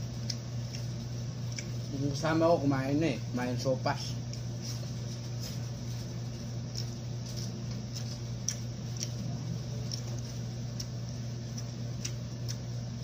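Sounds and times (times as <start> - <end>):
chewing and lip smacking: 0.0 - 2.2, 4.2 - 13.0.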